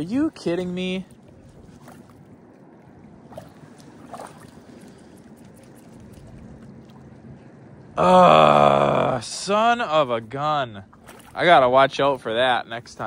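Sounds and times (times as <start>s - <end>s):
river water: 0.0s - 13.0s
wind rumble: 0.0s - 13.0s.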